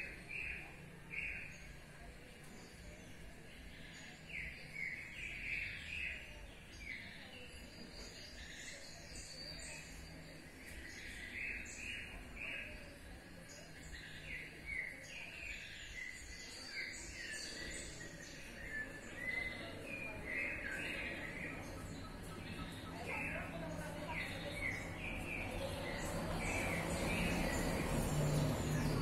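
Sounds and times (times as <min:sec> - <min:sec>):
faint background noise: 0:00.0 - 0:29.0
small birds chirping: 0:00.0 - 0:29.0.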